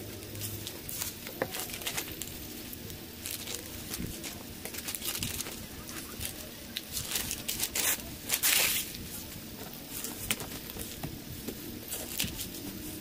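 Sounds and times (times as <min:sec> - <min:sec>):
newspaper rustling: 0:00.0 - 0:13.0.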